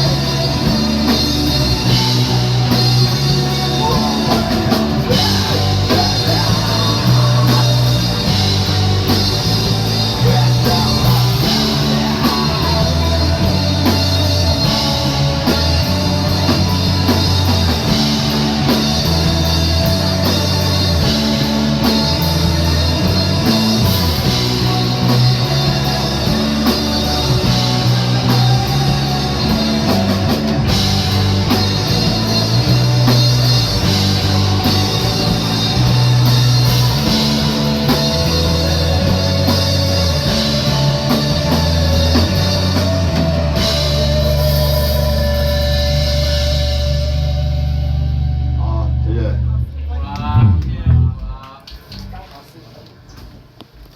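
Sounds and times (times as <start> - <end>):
rock band playing live: 0.0 - 49.2
bass guitar notes: 0.0 - 52.2.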